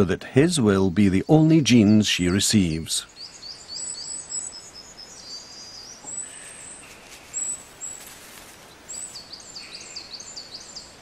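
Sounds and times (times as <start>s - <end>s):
birds singing: 0.0s - 11.0s
soft outdoor hiss: 0.0s - 11.0s.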